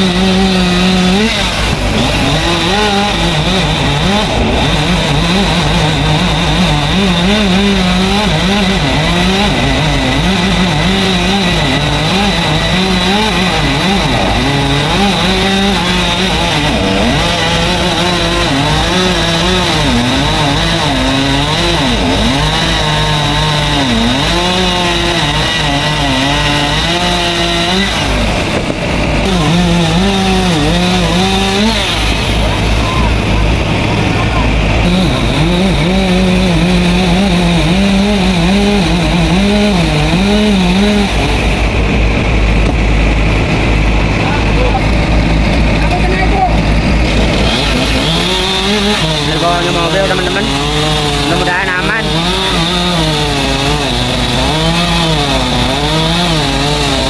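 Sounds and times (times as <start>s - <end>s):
chainsaw cutting tree trunk: 0.0s - 57.0s.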